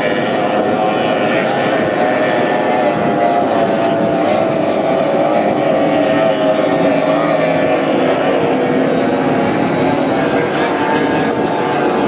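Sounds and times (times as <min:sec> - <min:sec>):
racing boat engines droning: 0:00.0 - 0:12.0.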